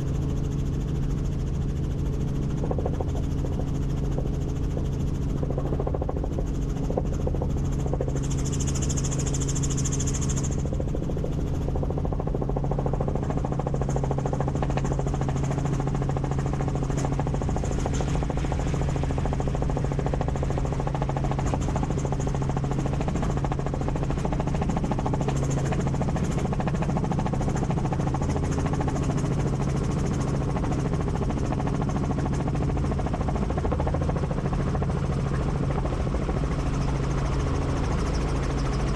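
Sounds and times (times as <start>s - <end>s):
helicopter rotor drone: 0.0s - 38.9s.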